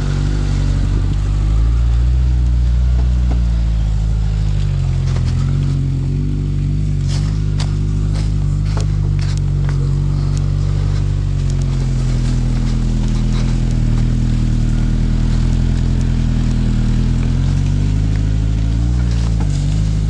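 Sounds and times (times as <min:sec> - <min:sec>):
car engine running under load: 0:00.0 - 0:20.0.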